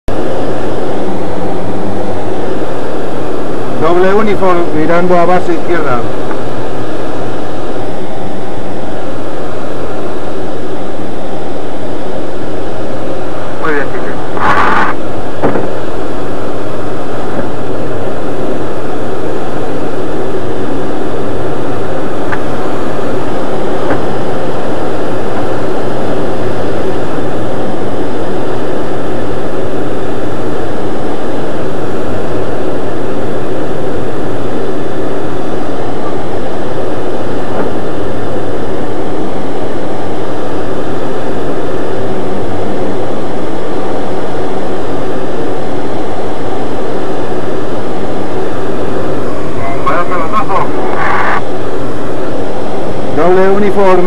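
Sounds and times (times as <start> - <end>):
rush of air over canopy: 0.1 - 54.0.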